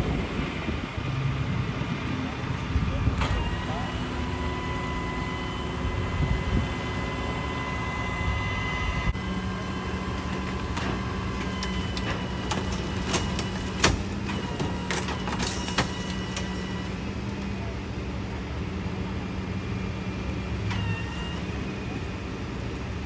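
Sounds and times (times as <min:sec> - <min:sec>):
heavy trucks idling: 0:00.0 - 0:23.0.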